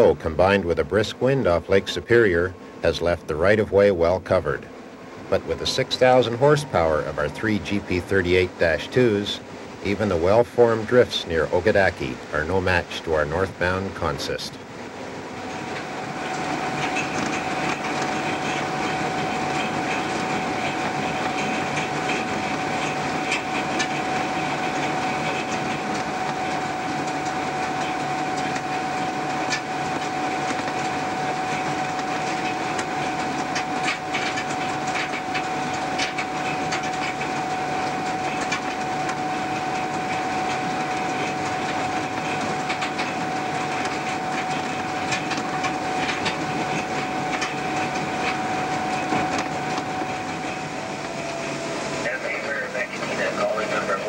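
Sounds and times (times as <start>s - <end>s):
steady whine: 0.0s - 54.0s
train running noise: 0.0s - 54.0s.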